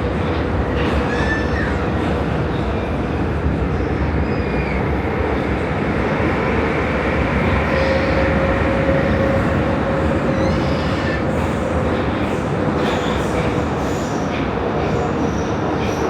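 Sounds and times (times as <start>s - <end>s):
steady train whine: 0.0s - 16.0s
train wheels rumbling on rail: 0.0s - 16.0s.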